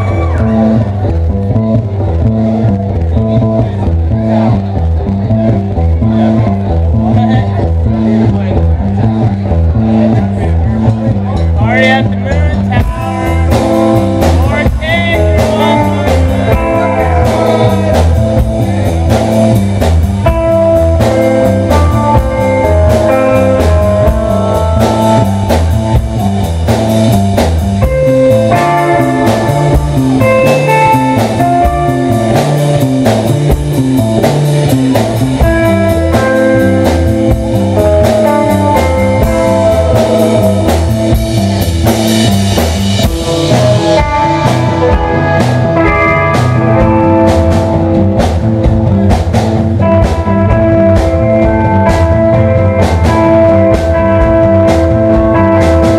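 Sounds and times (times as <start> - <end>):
bass line: 0.0 - 55.9
electric guitar: 0.0 - 55.9
drum kit beat: 10.7 - 55.9.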